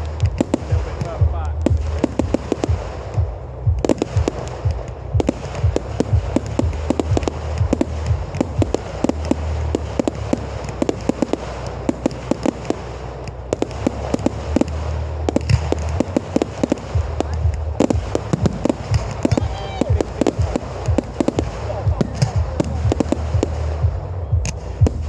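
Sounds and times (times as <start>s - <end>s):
fireworks bangs and crackles: 0.0s - 25.0s
low rumble: 0.0s - 25.0s.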